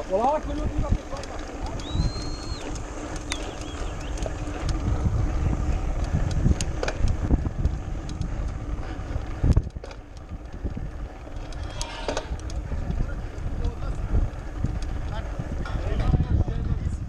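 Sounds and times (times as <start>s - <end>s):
bike rattling over cobblestones: 0.0s - 17.0s
wind buffeting microphone: 0.0s - 17.0s.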